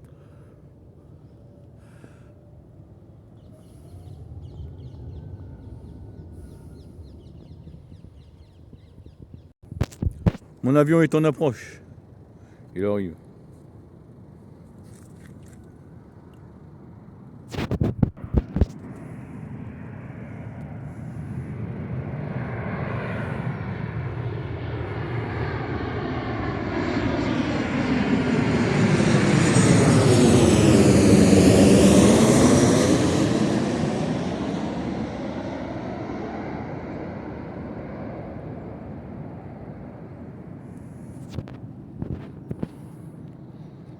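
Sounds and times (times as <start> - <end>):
airliner flying low overhead: 0.0 - 9.5, 10.3 - 43.9.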